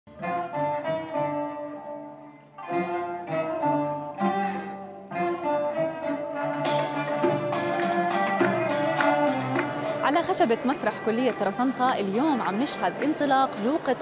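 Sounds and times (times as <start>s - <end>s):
plucked string instrument: 0.1s - 14.0s
string ensemble playing: 0.2s - 14.0s.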